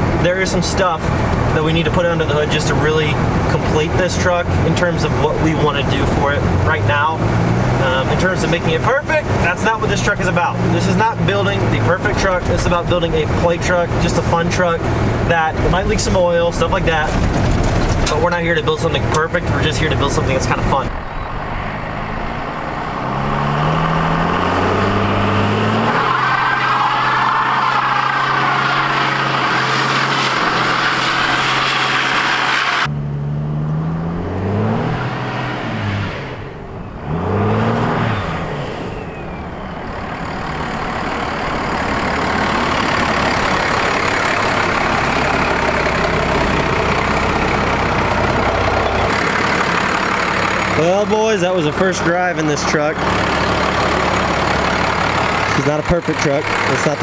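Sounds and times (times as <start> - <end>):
diesel engine accelerating: 0.0 - 57.0.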